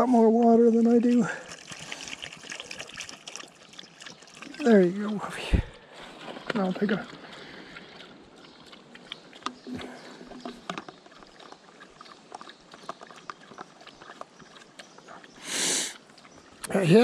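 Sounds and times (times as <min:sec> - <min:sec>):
dog lapping water: 0:00.4 - 0:15.4.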